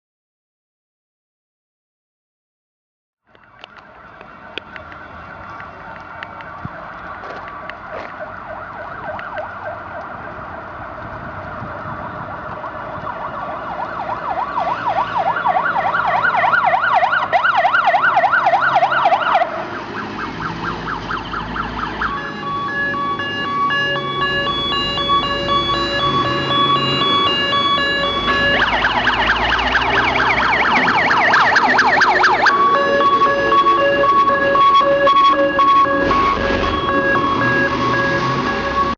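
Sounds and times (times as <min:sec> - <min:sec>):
fire engine siren: 0:03.3 - 0:38.9.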